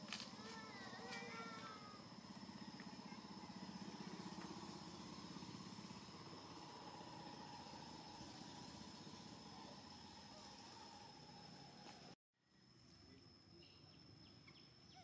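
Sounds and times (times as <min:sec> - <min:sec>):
small engine idling: 0:00.0 - 0:13.2.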